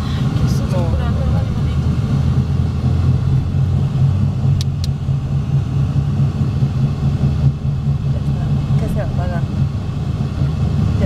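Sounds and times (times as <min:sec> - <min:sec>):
car driving at highway speed: 0:00.0 - 0:11.0.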